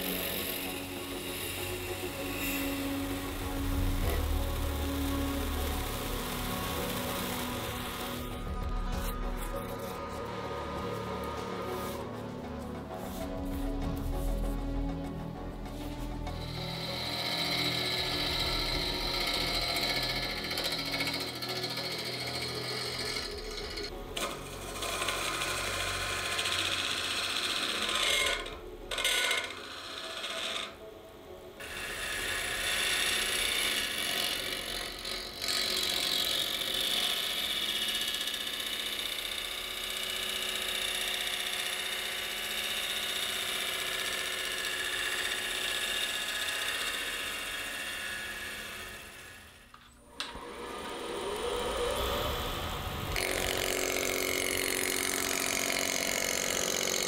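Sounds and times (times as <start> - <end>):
wood lathe running hum: 0.0 - 8.8, 14.7 - 57.0
turning tools scraping wood: 0.0 - 30.8, 31.6 - 51.3, 53.2 - 57.0.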